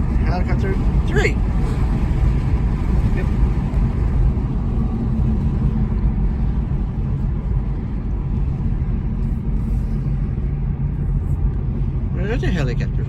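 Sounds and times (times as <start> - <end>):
motor vehicle low rumble: 0.0 - 13.0.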